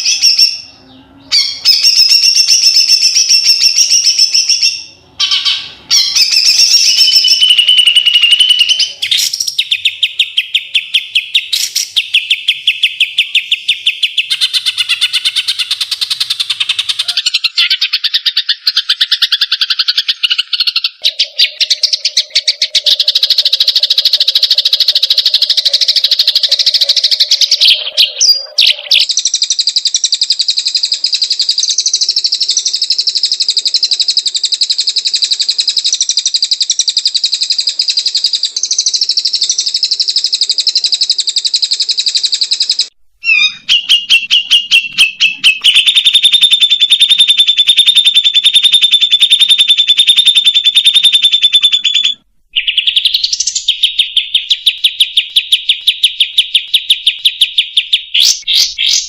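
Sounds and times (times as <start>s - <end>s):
songbird buzzy trills: 0.0s - 59.0s.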